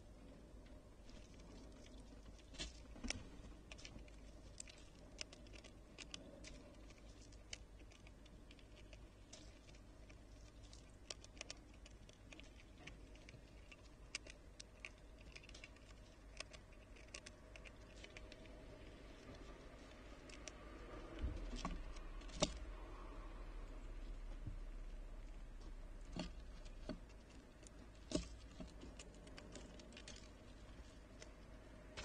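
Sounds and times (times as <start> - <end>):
squirrel cracking seeds: 0.9 - 32.0.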